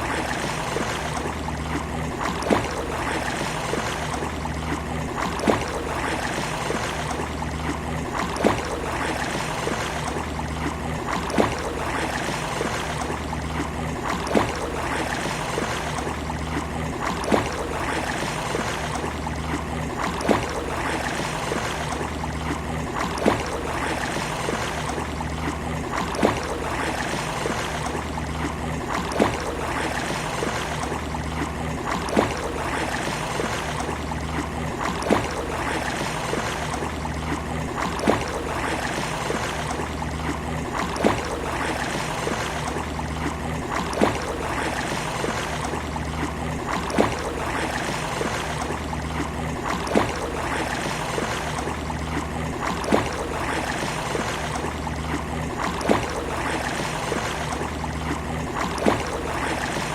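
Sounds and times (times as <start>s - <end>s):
waves washing on beach: 0.0s - 59.9s.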